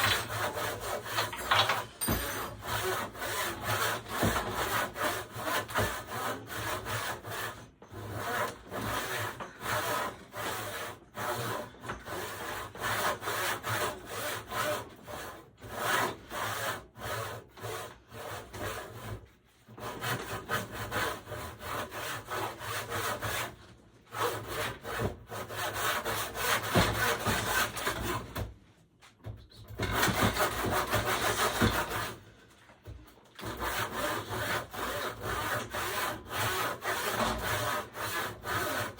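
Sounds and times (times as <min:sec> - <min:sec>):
hand saw cutting wood: 0:00.0 - 0:28.5, 0:29.8 - 0:32.3, 0:33.3 - 0:38.9.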